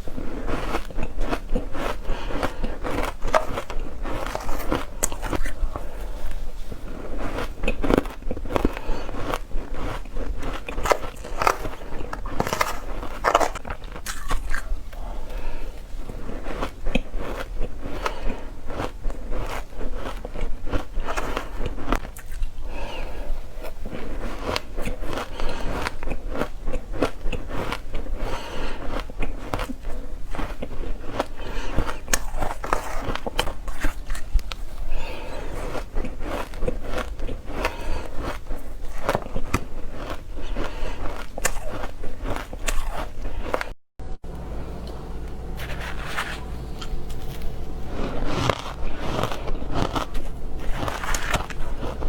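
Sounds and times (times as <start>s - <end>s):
crunchy chewing of ice: 0.0s - 43.8s, 47.1s - 52.0s.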